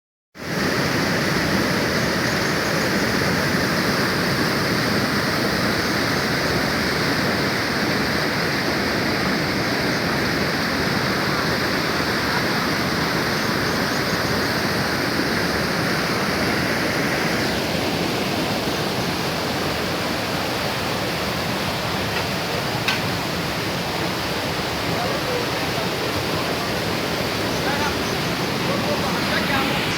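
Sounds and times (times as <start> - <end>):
waterfall rushing: 0.4 - 29.9.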